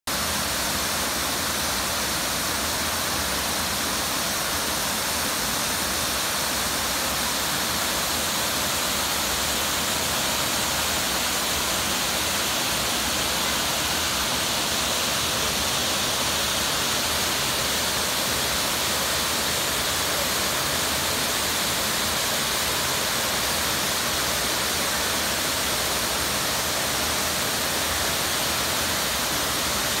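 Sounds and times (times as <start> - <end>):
waterfall rushing into pool: 0.1 - 30.0.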